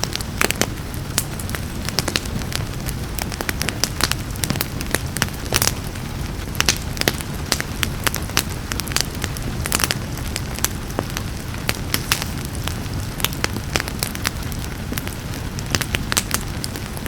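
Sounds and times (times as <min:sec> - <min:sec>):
rain hissing: 0:00.0 - 0:17.0
wood fire crackling and popping: 0:00.0 - 0:17.0.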